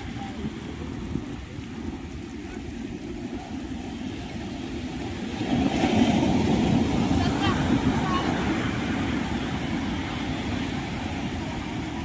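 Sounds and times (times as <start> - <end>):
surf breaking on shore: 0.0 - 12.0
wind rumbling on microphone: 0.0 - 12.0.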